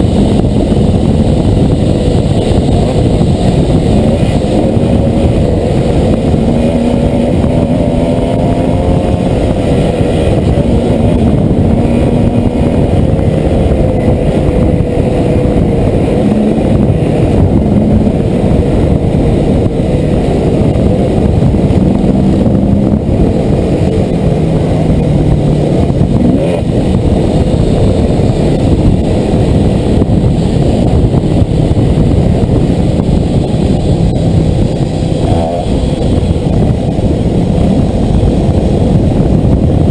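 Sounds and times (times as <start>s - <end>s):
rushing noise: 0.0s - 39.9s
dirt bike engine revving: 2.0s - 31.2s, 31.8s - 37.9s.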